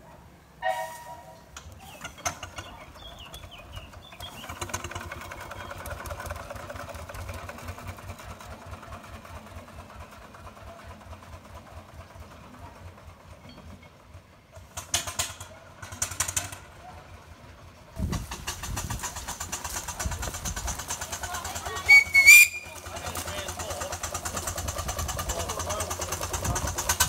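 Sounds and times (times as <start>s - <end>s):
steam engine exhaust beating: 2.4s - 27.0s.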